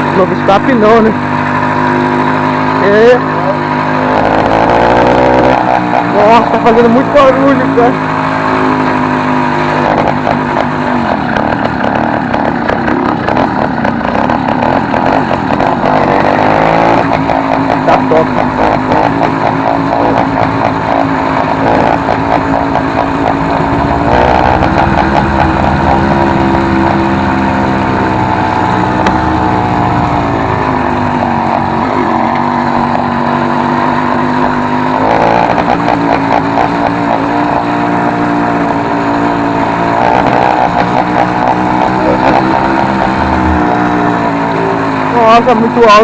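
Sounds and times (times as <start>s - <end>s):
small engine revving loudly: 0.0s - 46.0s.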